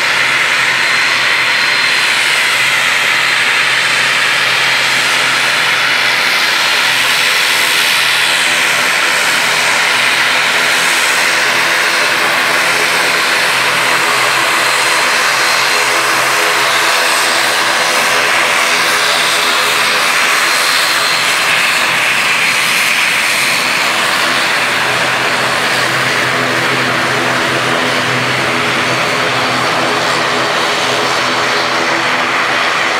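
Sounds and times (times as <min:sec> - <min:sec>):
propeller drone: 0:00.0 - 0:32.9.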